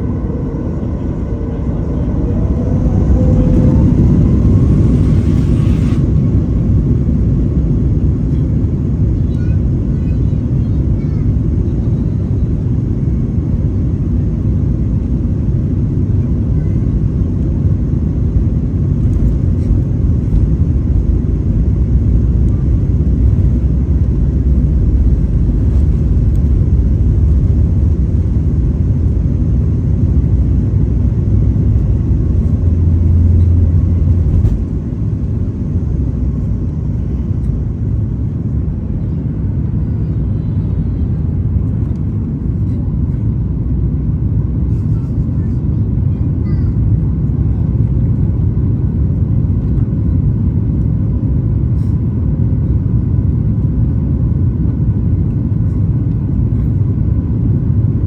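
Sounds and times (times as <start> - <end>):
aircraft cabin engine rumble: 0.0 - 58.0.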